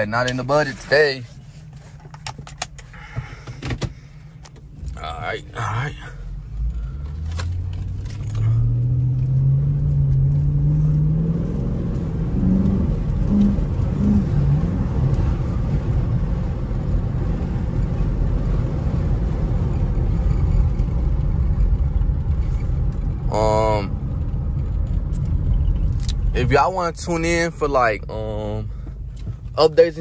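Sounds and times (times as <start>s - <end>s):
road and wind noise: 0.0s - 30.0s
car engine pulling away: 4.6s - 30.0s.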